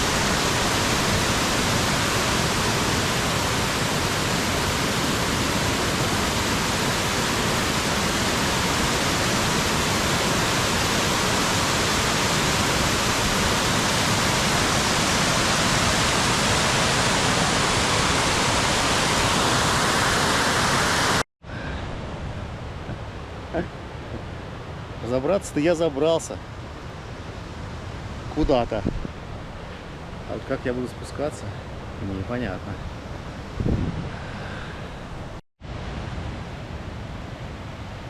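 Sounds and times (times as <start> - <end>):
mountain water rushing: 0.0 - 38.0.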